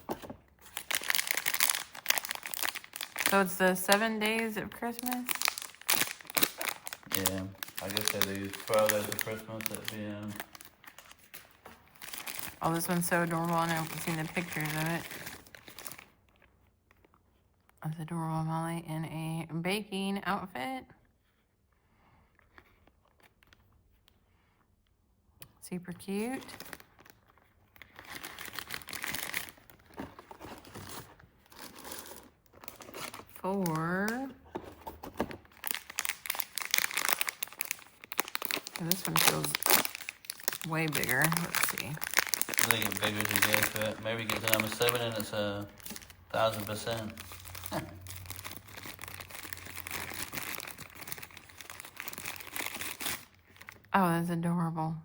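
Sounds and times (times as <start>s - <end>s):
packaging crinkling and rustling: 0.0s - 17.8s, 22.3s - 24.2s, 26.2s - 53.9s.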